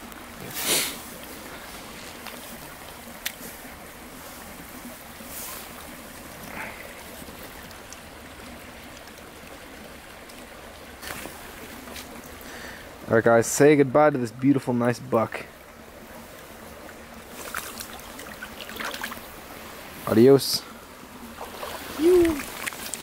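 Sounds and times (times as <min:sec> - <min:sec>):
creek water flowing: 0:00.0 - 0:23.0.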